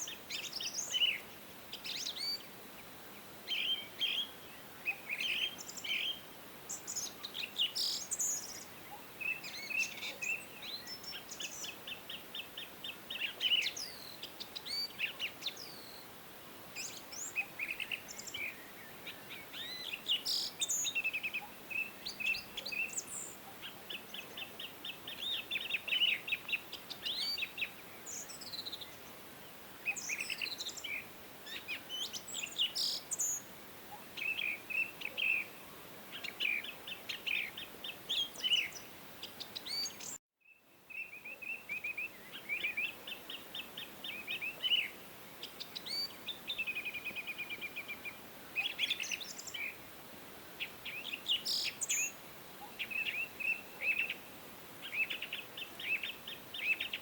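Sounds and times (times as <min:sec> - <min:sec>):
faint outdoor hiss: 0:00.0 - 0:57.0
songbirds singing and calling: 0:00.0 - 0:57.0.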